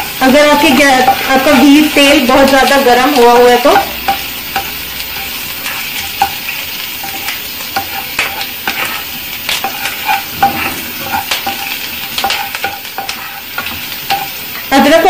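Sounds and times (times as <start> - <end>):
food sizzling in hot oil: 0.0 - 15.0
spatula scraping and tapping pan: 0.0 - 15.0.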